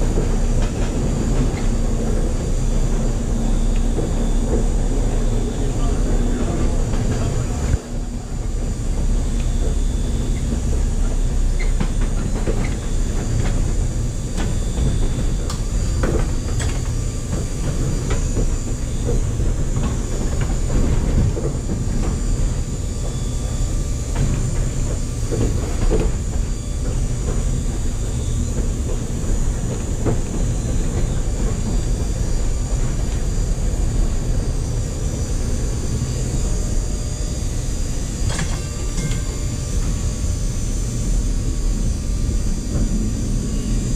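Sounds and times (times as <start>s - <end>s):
streetcar rumbling: 0.0s - 43.9s.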